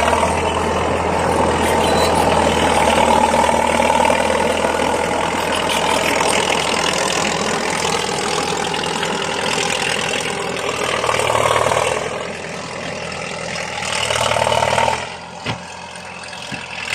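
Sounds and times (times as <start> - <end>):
bulldozer diesel engine running: 0.0 - 16.9.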